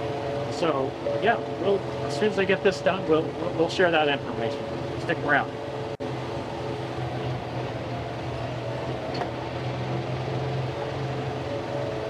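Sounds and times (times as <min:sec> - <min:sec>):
tractor and mower droning: 0:00.0 - 0:12.0.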